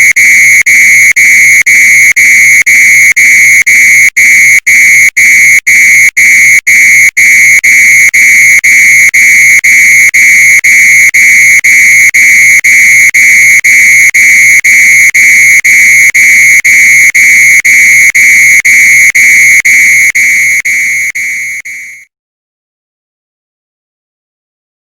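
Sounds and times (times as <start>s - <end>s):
fire alarm tone: 0.0s - 22.1s.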